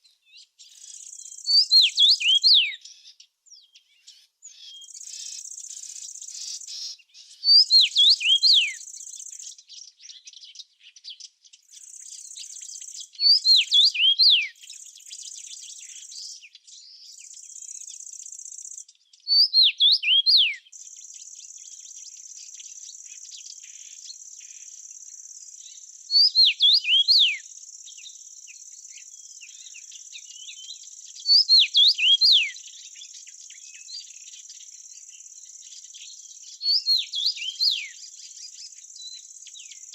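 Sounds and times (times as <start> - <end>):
songbird singing whistled notes: 0.0 - 39.9.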